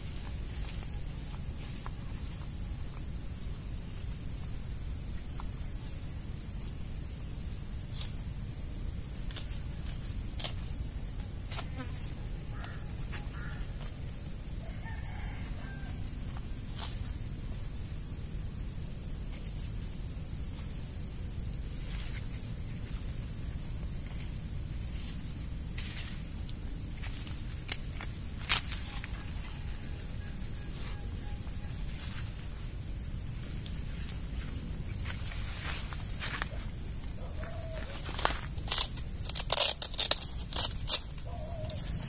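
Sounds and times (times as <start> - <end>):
high-pitched insect drone: 0.0 - 42.0.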